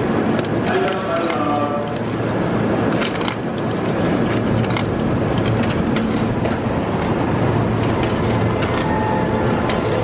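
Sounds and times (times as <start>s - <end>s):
station noise with low hum: 0.0s - 10.0s.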